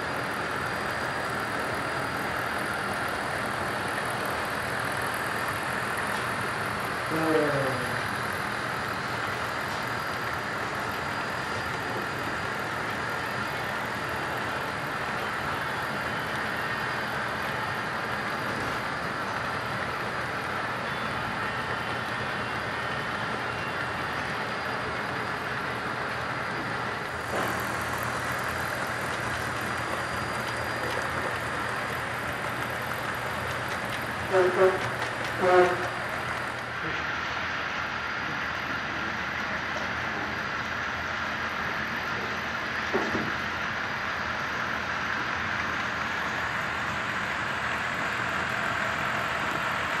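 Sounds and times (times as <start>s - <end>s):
model train running on track: 0.0s - 50.0s.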